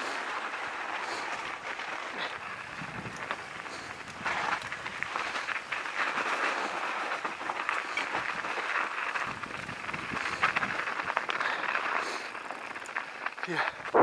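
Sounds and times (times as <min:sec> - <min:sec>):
bike tyres rolling over dirt: 0:00.0 - 0:14.0
bike frame and chain rattling: 0:00.1 - 0:14.0.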